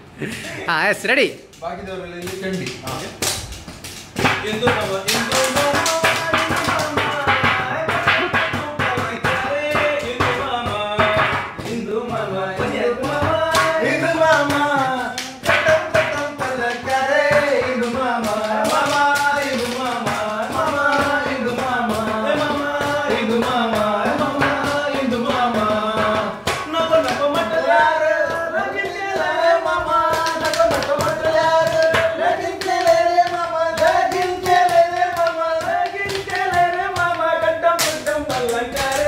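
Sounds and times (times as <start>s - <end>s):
percussion strikes: 2.2s - 39.0s
person singing: 4.6s - 39.0s.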